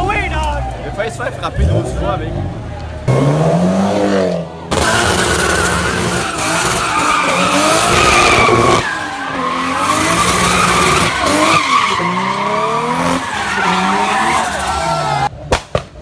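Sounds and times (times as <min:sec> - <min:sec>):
car tyres squealing: 0:00.0 - 0:15.4
engine revving: 0:01.4 - 0:15.3.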